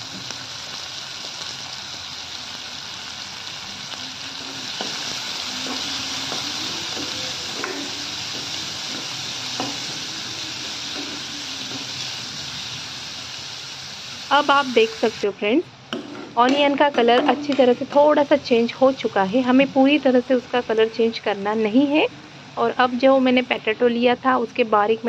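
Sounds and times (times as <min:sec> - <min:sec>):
onions sizzling in oil: 0:00.0 - 0:15.6, 0:16.4 - 0:25.0.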